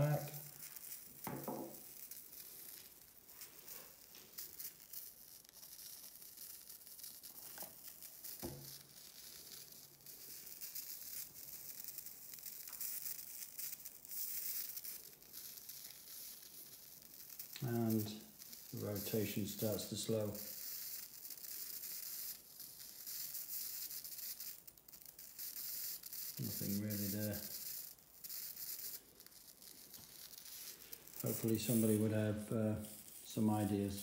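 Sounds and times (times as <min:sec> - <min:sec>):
crackling electric sparks: 0:00.0 - 0:34.0.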